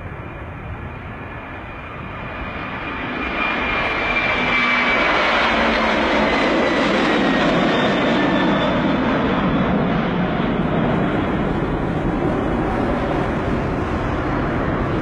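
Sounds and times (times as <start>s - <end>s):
aircraft engine running: 0.0s - 15.0s.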